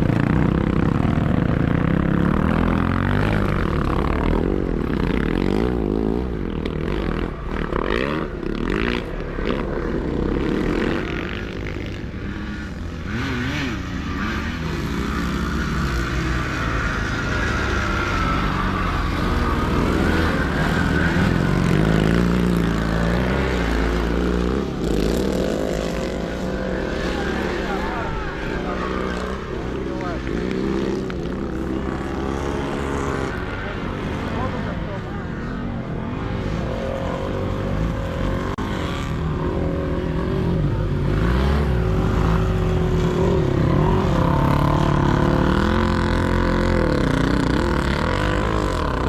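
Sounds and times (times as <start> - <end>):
motocross engines revving: 0.0 - 49.0.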